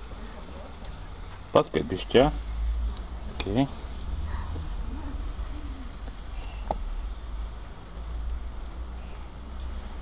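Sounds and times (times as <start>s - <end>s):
water hissing on hot charcoal: 0.3s - 10.0s.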